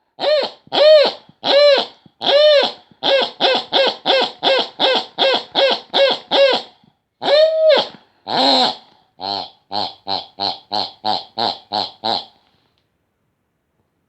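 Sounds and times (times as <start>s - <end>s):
pig wheezing and squealing: 0.1s - 12.4s.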